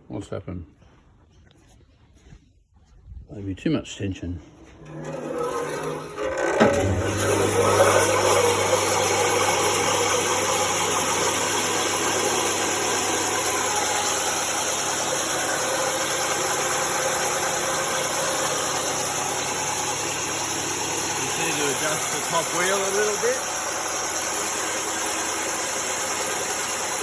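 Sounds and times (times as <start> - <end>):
bandsaw running: 4.5 - 27.0.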